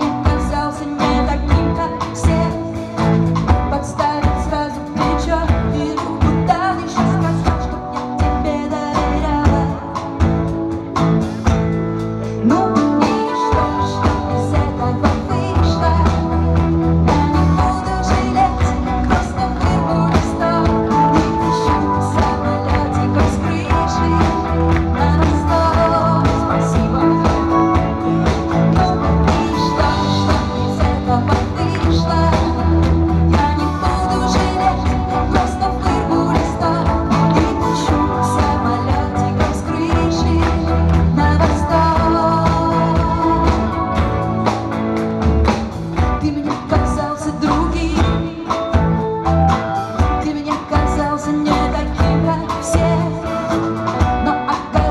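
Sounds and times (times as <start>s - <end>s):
bass guitar: 0.0s - 54.9s
drums: 0.0s - 54.9s
electric guitar: 0.0s - 54.9s.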